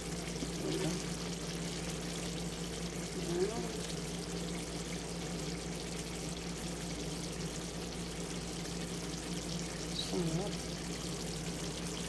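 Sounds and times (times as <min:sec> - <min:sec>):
sauce bubbling and sizzling in a pan: 0:00.0 - 0:12.0.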